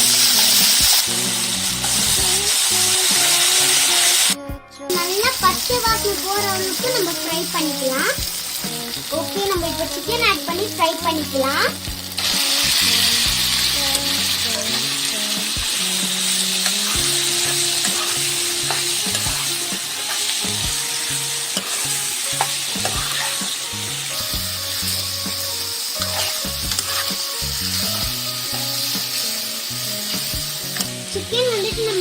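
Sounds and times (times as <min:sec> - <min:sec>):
chicken sizzling in hot oil: 0:00.0 - 0:32.0.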